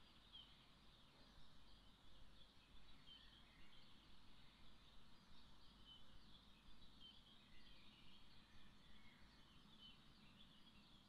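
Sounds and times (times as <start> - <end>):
distant songbirds chirping: 0.0 - 11.0
low steady background hush: 0.0 - 11.0.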